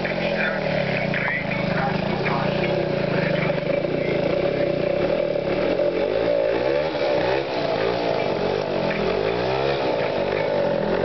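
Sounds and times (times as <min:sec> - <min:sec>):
motor scooter engine revving: 0:00.0 - 0:11.0.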